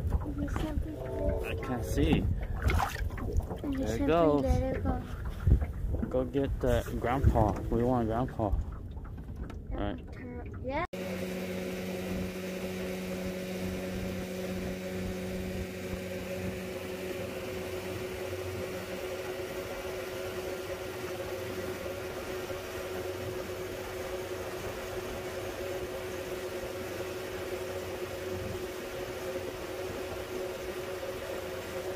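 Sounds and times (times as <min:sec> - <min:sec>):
boat motor running: 0:00.0 - 0:31.9.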